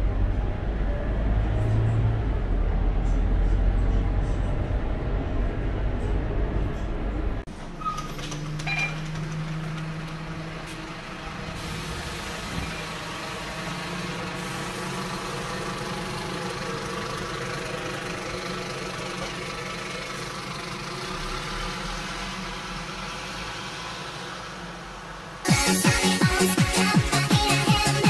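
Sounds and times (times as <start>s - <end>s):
diesel bus engine idling: 0.0s - 28.0s.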